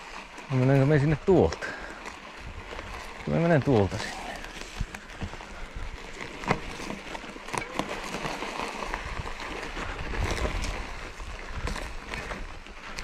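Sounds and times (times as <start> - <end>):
bike tyres rolling on trail: 0.0 - 13.0
bike clicks and knocks: 0.4 - 13.0.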